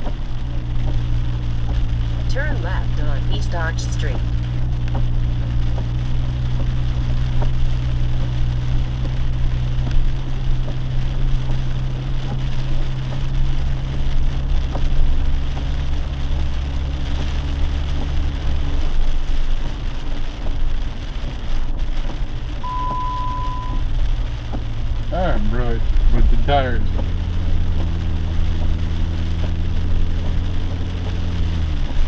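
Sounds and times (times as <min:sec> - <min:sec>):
engine and road drone: 0:00.0 - 0:32.0
rain and tyre spray hiss: 0:00.0 - 0:32.0
raindrop ticks: 0:00.0 - 0:32.0.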